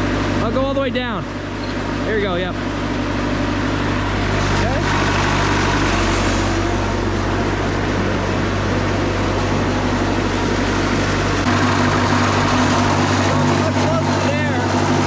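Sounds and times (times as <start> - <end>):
bandsaw mill running: 0.0 - 15.0.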